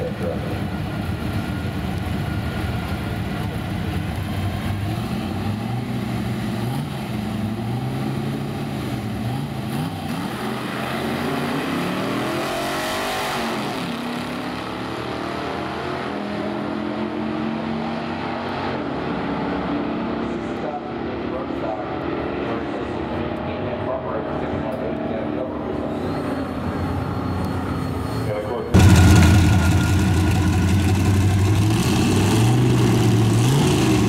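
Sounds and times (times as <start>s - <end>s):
car engines running: 0.0s - 34.0s.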